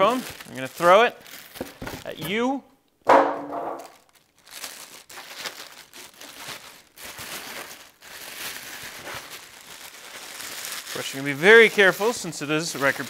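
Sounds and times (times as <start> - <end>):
plastic wrapping crinkling: 0.0 - 2.5, 3.1 - 13.0.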